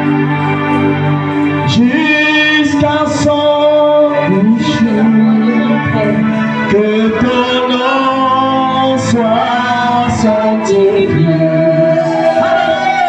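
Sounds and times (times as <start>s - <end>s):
man singing long gliding notes: 0.0s - 13.0s
music: 0.0s - 13.0s.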